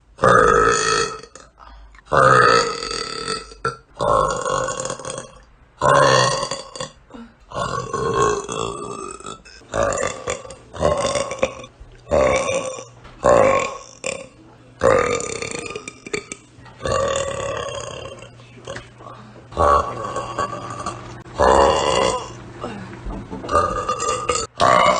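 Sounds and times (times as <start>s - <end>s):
woman burping: 0.2s - 18.8s, 19.5s - 24.9s.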